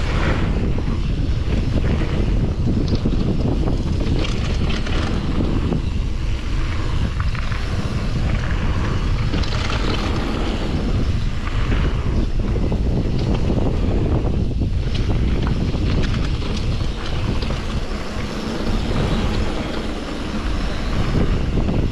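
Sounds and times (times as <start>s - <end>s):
bike tyres rolling on dirt: 0.0s - 21.9s
gravel clicks and crunches: 0.0s - 21.9s
wind buffeting microphone: 0.0s - 21.9s.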